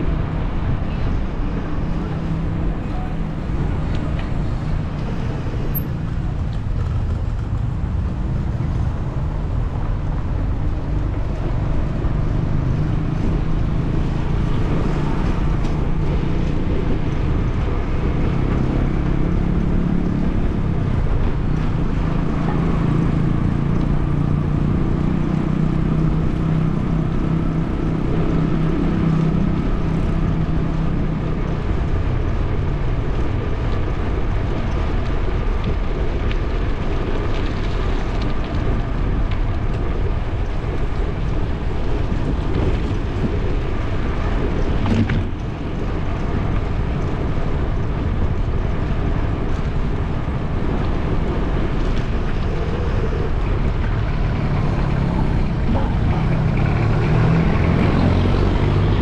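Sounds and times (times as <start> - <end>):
street traffic: 0.0 - 59.0
wind on microphone: 0.0 - 59.0.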